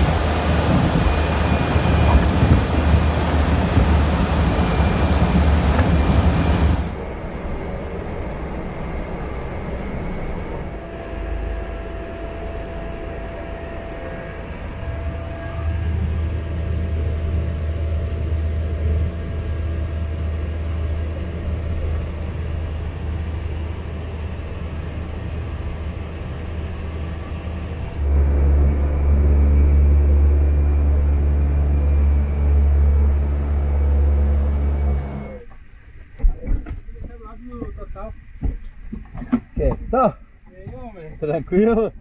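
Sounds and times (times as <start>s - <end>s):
steady hum: 0.0s - 35.4s
turboprop engine drone: 0.0s - 36.3s.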